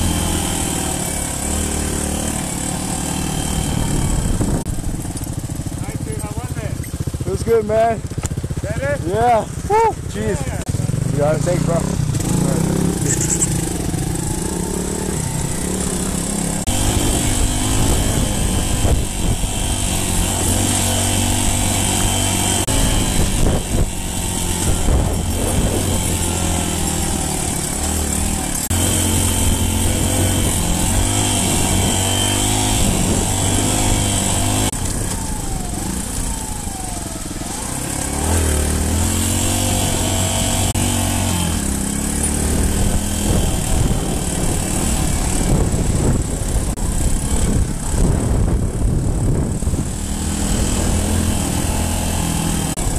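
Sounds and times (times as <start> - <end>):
dirt bike engine accelerating: 0.0 - 52.9.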